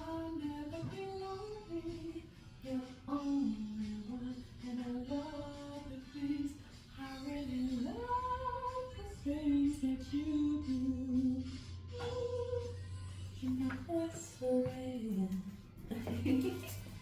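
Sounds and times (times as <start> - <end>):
woman singing unaccompanied: 0.0 - 16.6.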